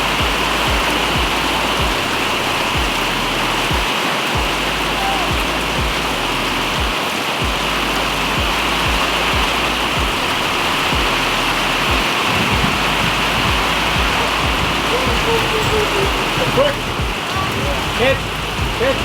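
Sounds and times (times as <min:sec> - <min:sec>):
music with kick-drum beat: 0:00.0 - 0:07.7, 0:08.3 - 0:19.0
heavy rain pouring: 0:00.0 - 0:19.0.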